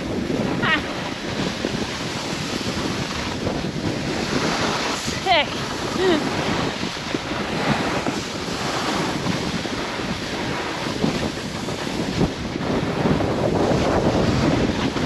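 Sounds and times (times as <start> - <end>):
wind buffeting microphone: 0.0 - 15.0
snowboard sliding on slushy snow: 1.1 - 15.0.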